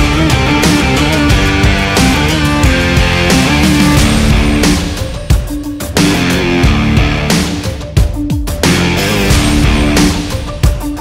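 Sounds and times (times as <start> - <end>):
distorted electric guitar: 0.0 - 8.0, 8.6 - 10.8
driving drum beat: 0.0 - 11.0.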